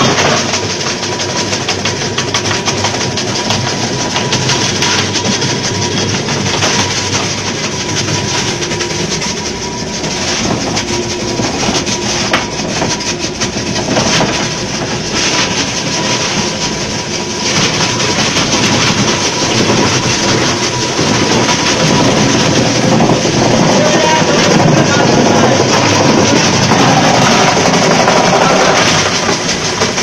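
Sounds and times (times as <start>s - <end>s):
ice crusher machine crushing ice: 0.0s - 30.0s.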